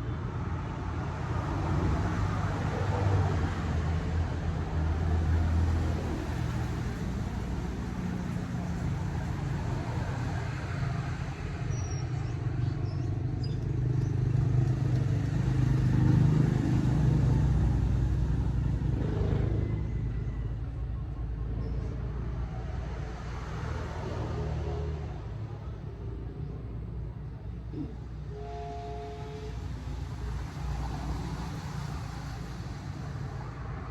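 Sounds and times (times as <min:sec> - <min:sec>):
low road rumble: 0:00.0 - 0:33.9.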